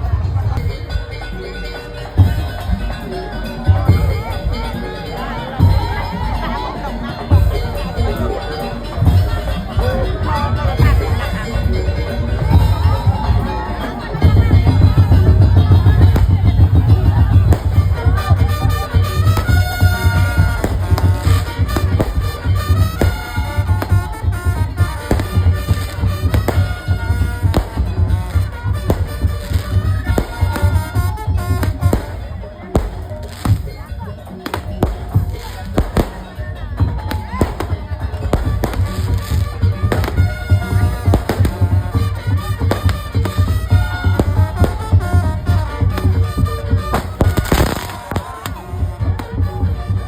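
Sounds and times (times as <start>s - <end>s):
heavy pulsing drums: 0.0s - 50.0s
reedy shawm melody: 0.0s - 50.0s
sharp struck percussion: 0.0s - 50.0s.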